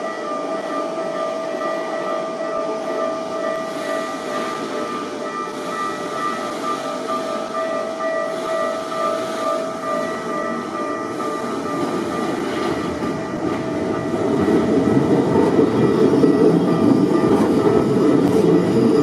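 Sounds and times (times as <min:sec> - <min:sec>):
electric train passing: 0:00.0 - 0:19.0
level-crossing bell ringing: 0:00.0 - 0:19.0.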